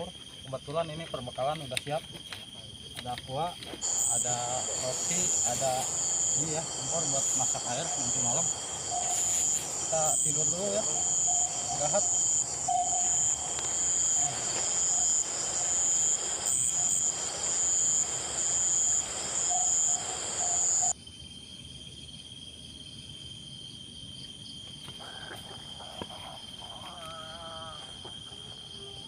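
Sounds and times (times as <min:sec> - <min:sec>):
insects chirring: 0:00.0 - 0:29.0
thin insect whine: 0:03.0 - 0:29.0.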